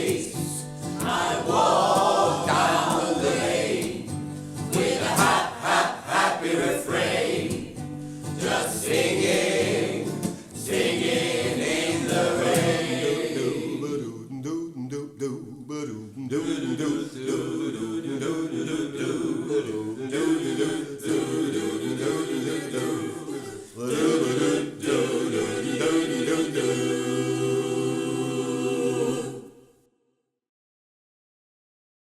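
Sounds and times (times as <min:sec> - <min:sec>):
choir singing a cappella: 0:00.0 - 0:29.9.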